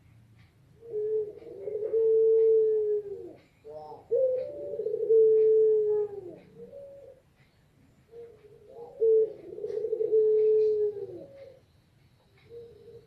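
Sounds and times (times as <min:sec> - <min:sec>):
dove cooing: 0:00.7 - 0:11.7, 0:12.4 - 0:13.0.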